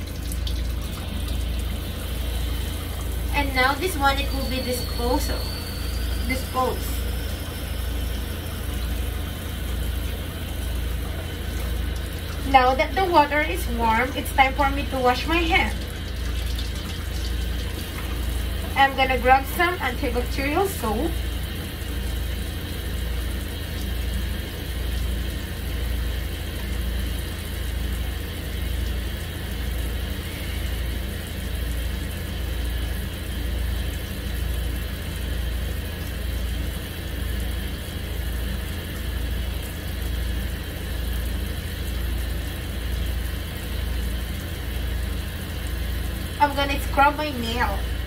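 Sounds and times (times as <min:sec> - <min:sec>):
low pulsing hum: 0:00.0 - 0:48.0
tap water running into sink: 0:00.0 - 0:48.0.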